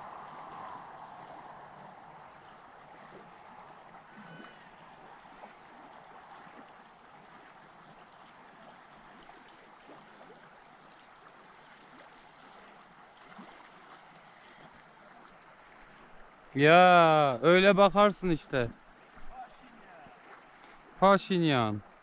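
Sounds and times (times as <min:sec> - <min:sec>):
river flowing over ripples: 0:00.0 - 0:22.0.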